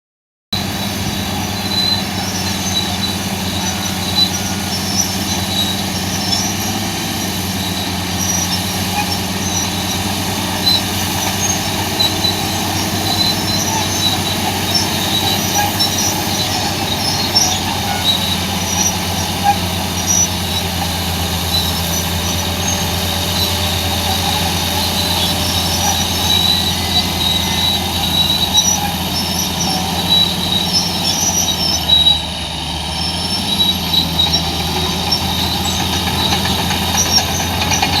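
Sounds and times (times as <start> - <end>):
heavy machinery engine hum: 0.6 - 38.0
short high-pitched squeaks: 0.6 - 38.0.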